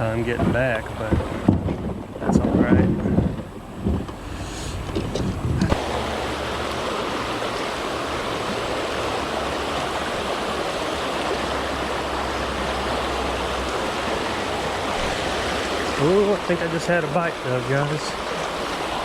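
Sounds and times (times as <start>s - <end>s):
river water rushing over riffles: 0.0s - 19.0s.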